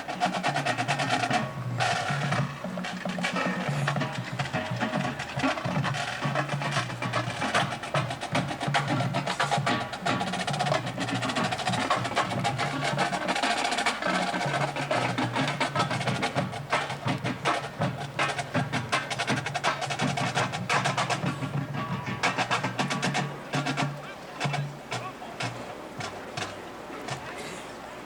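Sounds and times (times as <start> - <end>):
rapid drum strokes: 0.0 - 27.7.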